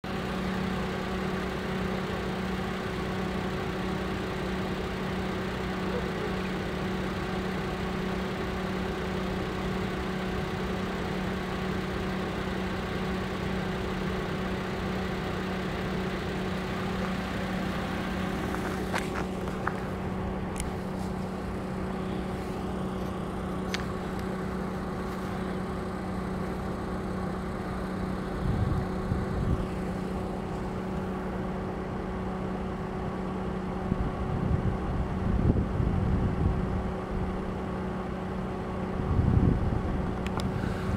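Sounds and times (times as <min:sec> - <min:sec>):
engine idling hum: 0:00.0 - 0:40.9.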